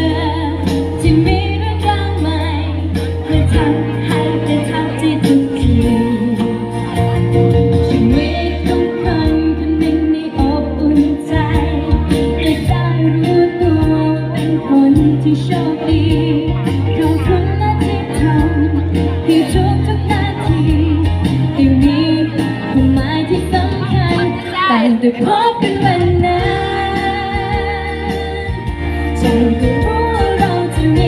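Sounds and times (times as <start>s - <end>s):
girl singing into a microphone: 0.0s - 6.6s, 7.9s - 31.0s
backing track with beat and bass: 0.0s - 31.0s.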